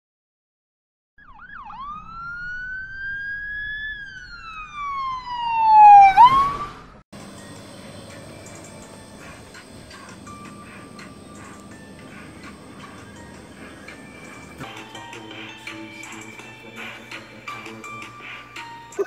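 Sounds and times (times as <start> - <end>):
emergency siren wailing: 1.2 - 19.0.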